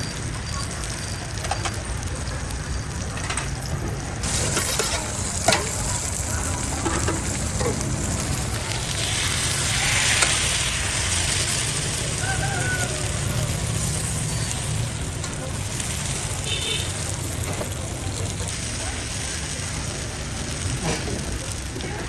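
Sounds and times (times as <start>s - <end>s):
batter sizzling in a pan: 0.0s - 22.0s.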